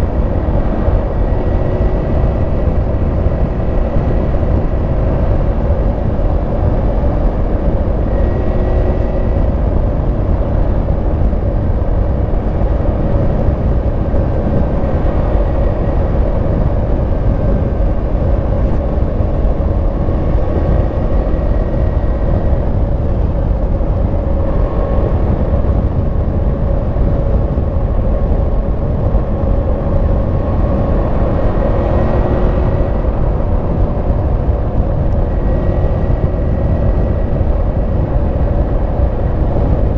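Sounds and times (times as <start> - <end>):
motorcycle engine cruising: 0.0 - 39.9
wind rumble on microphone: 0.0 - 39.9.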